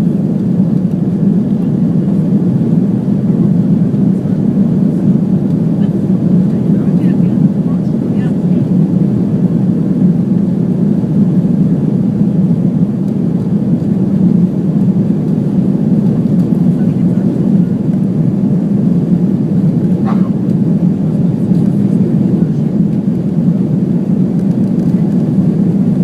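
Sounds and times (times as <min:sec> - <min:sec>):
jet engine roar in cabin: 0:00.0 - 0:26.0.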